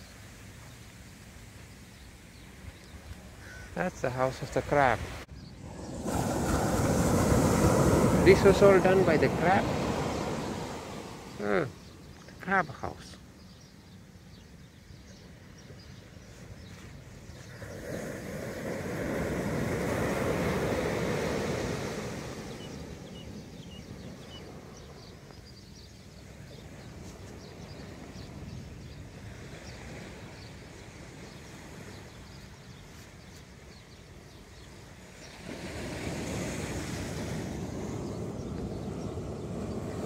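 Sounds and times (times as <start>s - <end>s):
small waves breaking on shore: 0.0s - 13.3s, 15.2s - 40.0s.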